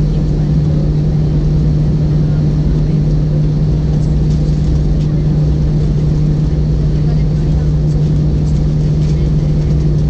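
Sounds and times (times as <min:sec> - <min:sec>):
airplane cabin engine hum: 0:00.0 - 0:10.0
constant rumble: 0:00.0 - 0:10.0.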